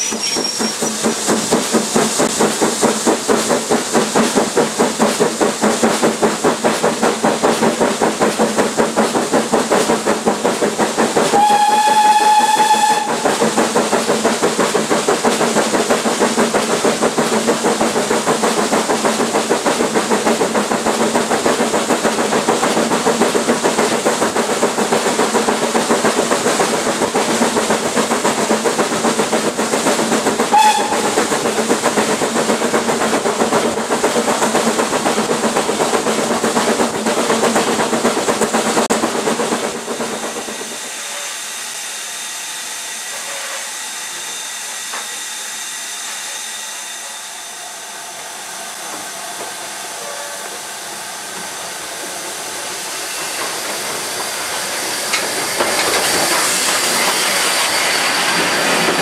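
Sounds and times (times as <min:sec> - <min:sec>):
train wheels rattling: 0:00.0 - 0:41.3, 0:51.3 - 0:59.0
steam hissing: 0:00.0 - 0:59.0.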